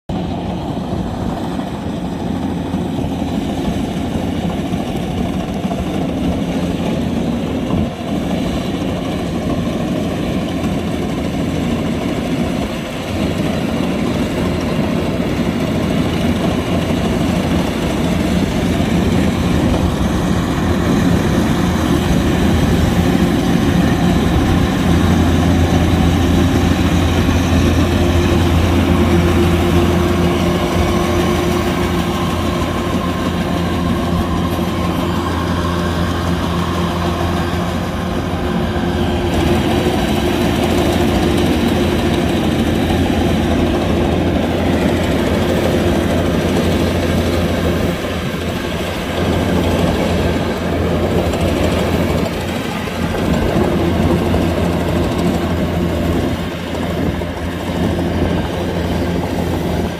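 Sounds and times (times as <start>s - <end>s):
combine harvester diesel engine hum: 0.1s - 59.9s.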